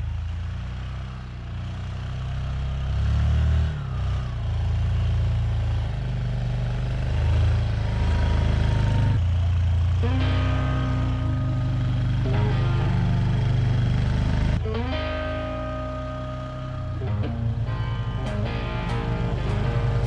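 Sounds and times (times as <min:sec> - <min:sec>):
atv engine under load: 0:00.0 - 0:20.0.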